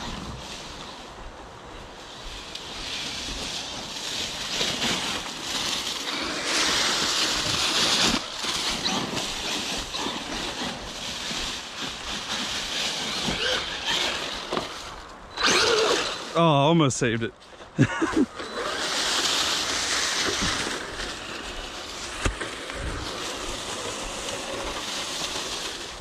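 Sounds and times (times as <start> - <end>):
toy truck crunching over dry leaves: 0.0 - 1.2, 1.8 - 16.6, 17.5 - 26.0.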